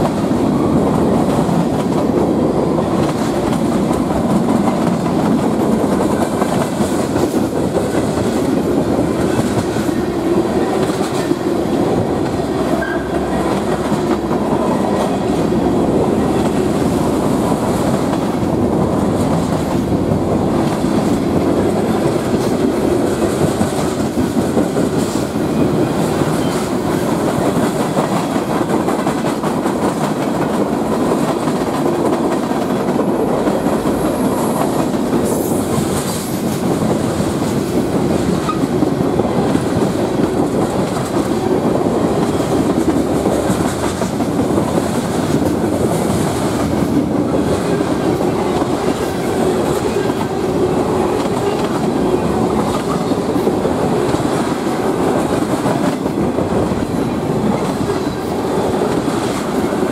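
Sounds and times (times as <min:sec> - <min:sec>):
clickety-clack over rail joints: 0:00.0 - 0:59.9
freight train wheels rumbling: 0:00.0 - 0:59.9.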